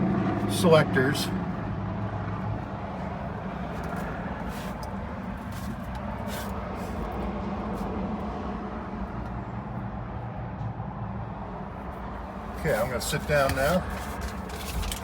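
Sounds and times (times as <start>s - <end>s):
constant low hum: 0.0s - 15.0s
highway traffic noise: 0.0s - 15.0s.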